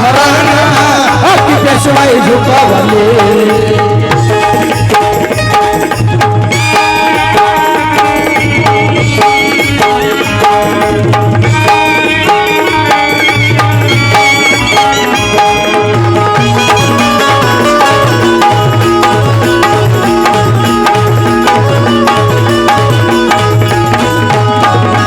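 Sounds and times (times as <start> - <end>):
ornamented instrumental melody: 0.0 - 25.0
tabla and drum beat: 0.0 - 25.0.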